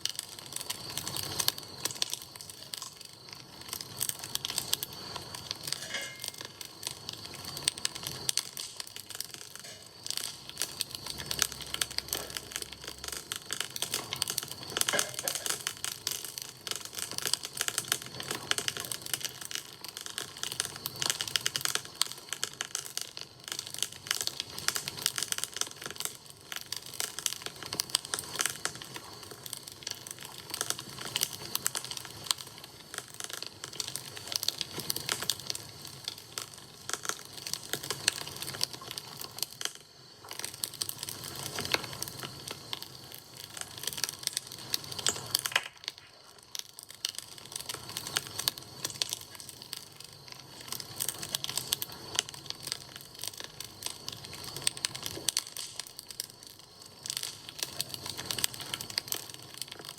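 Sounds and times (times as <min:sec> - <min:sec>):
campfire crackling and snapping: 0:00.0 - 0:59.9.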